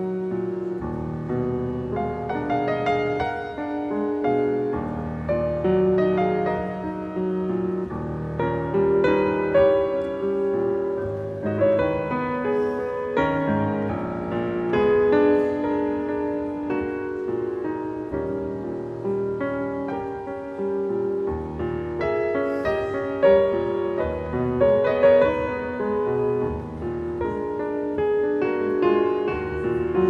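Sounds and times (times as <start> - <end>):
classical piano piece: 0.0 - 30.0.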